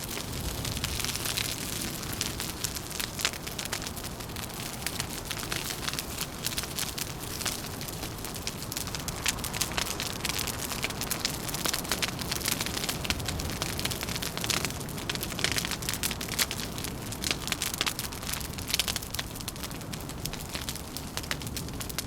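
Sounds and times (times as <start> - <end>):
low rumble of wind: 0.0 - 22.0
wood fire crackling: 0.0 - 22.0.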